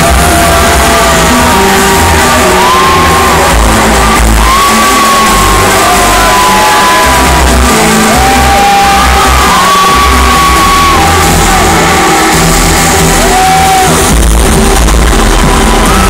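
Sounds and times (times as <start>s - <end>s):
crowd shouting and whooping: 0.0s - 16.0s
loud trance music: 0.0s - 16.0s.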